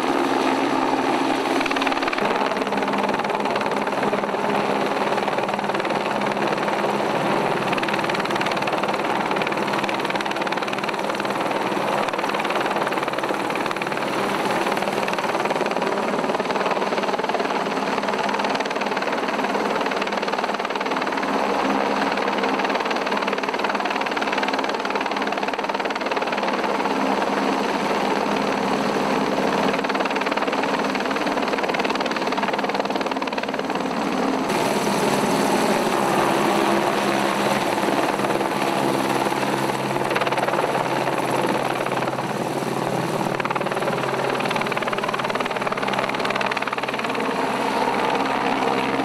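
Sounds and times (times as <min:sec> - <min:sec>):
helicopter rotor and engine: 0:00.0 - 0:49.0.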